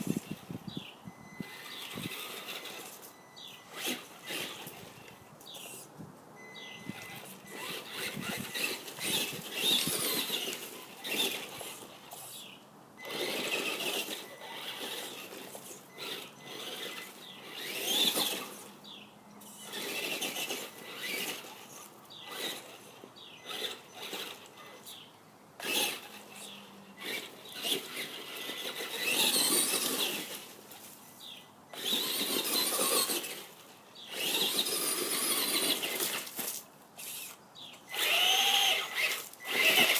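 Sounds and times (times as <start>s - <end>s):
toy car motor whining: 0.0s - 39.9s.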